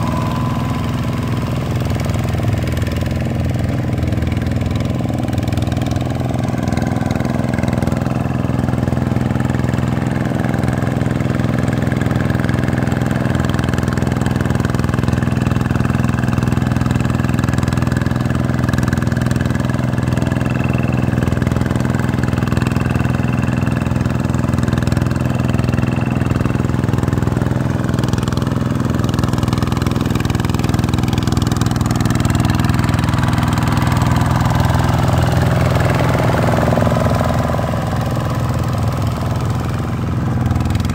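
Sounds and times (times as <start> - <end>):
diesel tractor engine running: 0.0 - 40.9
tractor churning through mud: 0.0 - 40.9.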